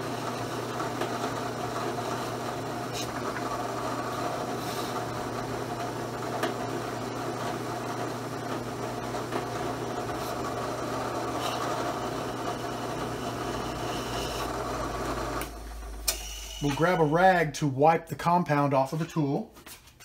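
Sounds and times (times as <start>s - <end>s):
drill press motor running: 0.0s - 17.2s.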